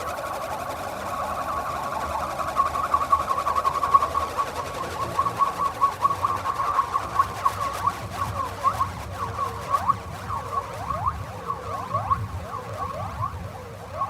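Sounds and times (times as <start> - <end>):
rapid chirping pitch flicks: 0.0 - 14.0.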